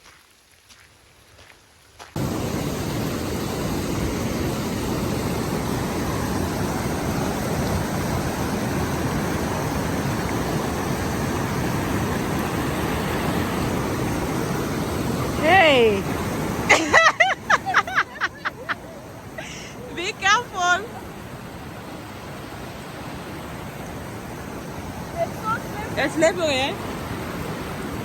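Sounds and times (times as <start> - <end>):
waterfall rushing: 2.2 - 28.0.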